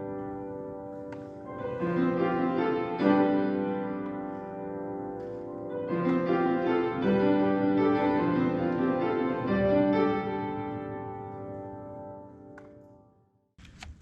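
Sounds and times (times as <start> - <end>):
slow solo piano: 0.0 - 13.1.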